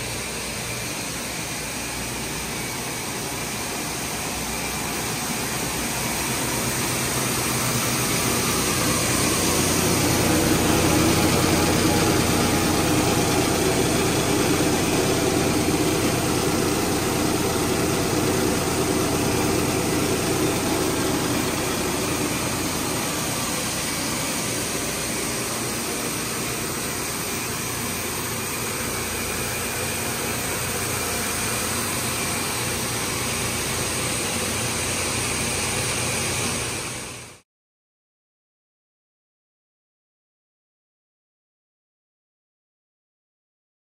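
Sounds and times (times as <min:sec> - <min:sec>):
machine hum: 0:00.0 - 0:37.4.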